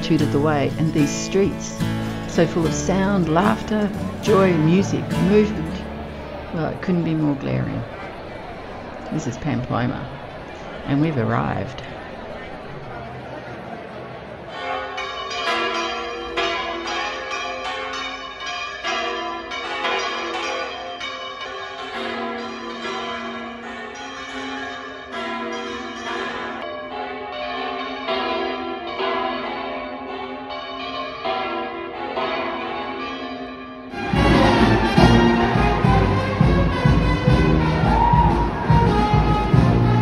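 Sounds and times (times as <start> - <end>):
church bells pealing: 0.0 - 13.2, 14.2 - 40.0.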